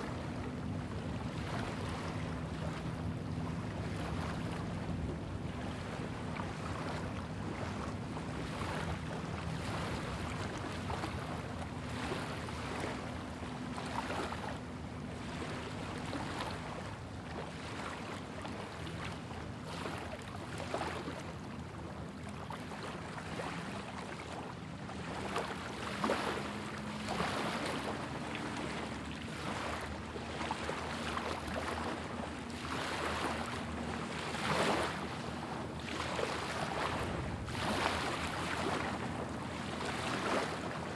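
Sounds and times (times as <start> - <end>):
waves lapping on sand: 0.0 - 40.9.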